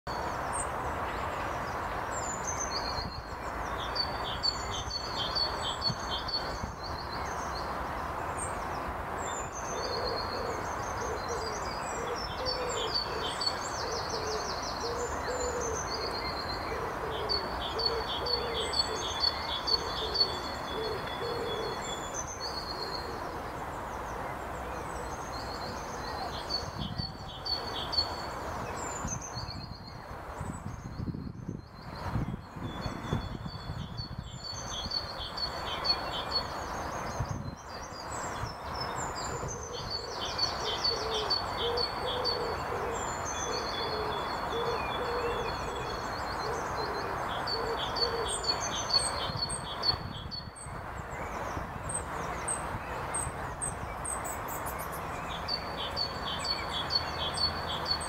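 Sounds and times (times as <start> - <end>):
background noise: 0.1 - 58.0.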